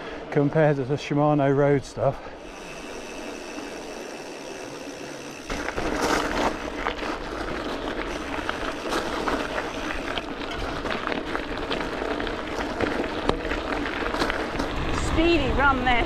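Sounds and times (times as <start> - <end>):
bike rolling on tarmac: 0.0 - 16.0
gravel crunching under tyres: 0.0 - 16.0.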